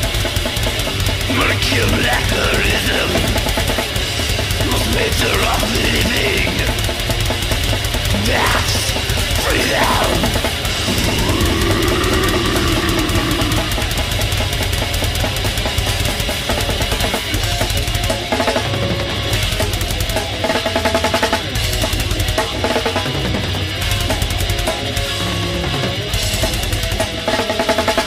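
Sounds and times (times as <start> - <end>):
distorted electric guitar riffs: 0.0 - 27.3
rapid drum kit: 0.0 - 28.0.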